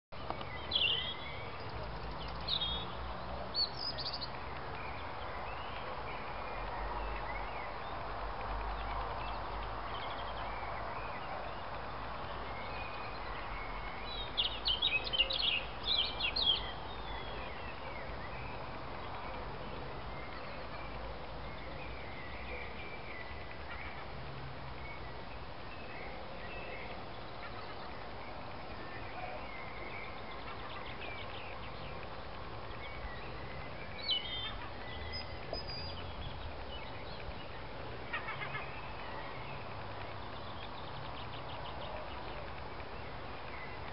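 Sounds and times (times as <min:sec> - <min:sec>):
outdoor ambience hum: 0:00.1 - 0:43.9.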